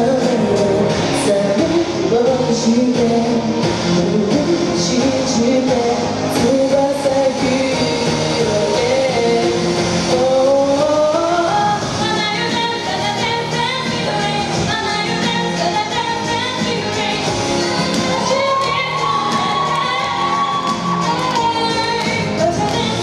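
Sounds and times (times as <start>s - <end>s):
pop backing track: 0.0s - 23.0s
woman singing karaoke: 0.0s - 23.0s.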